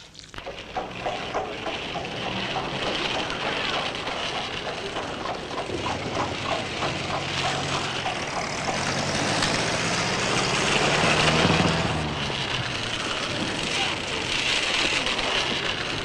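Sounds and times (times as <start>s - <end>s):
vehicle engine running: 0.4s - 16.0s.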